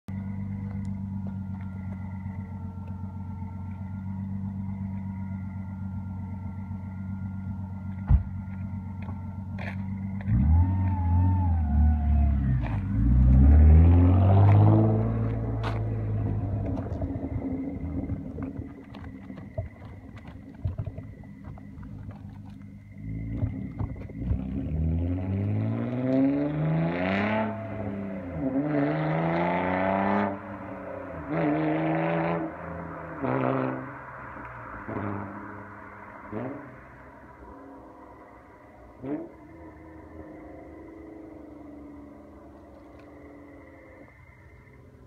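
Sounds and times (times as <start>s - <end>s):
car engine accelerating hard: 0.1s - 45.0s.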